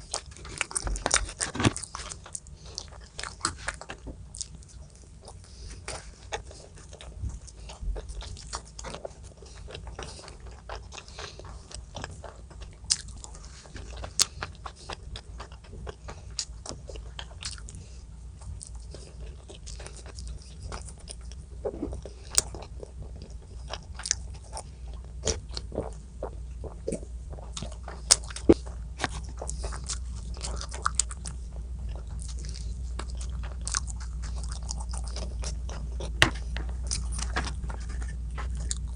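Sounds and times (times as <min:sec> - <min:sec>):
person chewing and crunching: 0:00.0 - 0:38.9
steady low hum: 0:00.0 - 0:38.9.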